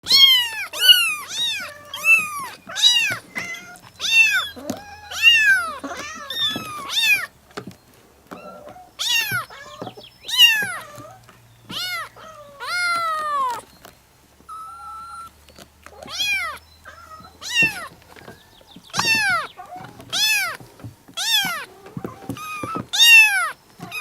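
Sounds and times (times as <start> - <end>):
kittens meowing: 0.0 - 7.7, 8.3 - 13.7, 14.5 - 24.0.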